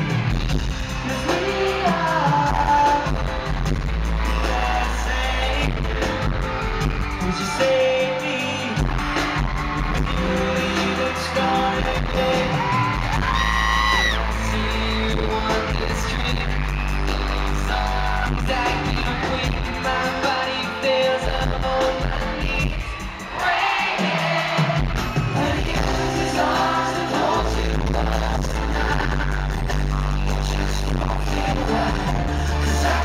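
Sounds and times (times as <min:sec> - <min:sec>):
live band playing: 0:00.0 - 0:33.0
male singer singing: 0:00.8 - 0:33.0.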